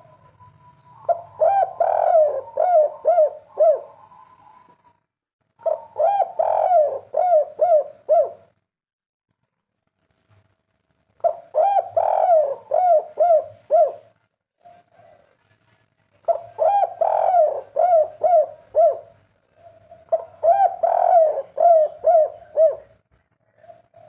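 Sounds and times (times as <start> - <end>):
dove cooing: 0.0 - 5.0, 5.6 - 8.6, 11.2 - 15.5, 16.2 - 24.0.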